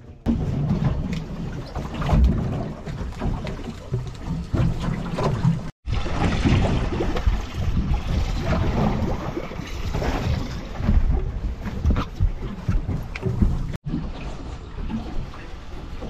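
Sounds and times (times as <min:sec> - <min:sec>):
water slapping against boat hull: 0:00.0 - 0:16.0
wind rumbling on microphone: 0:00.0 - 0:16.0.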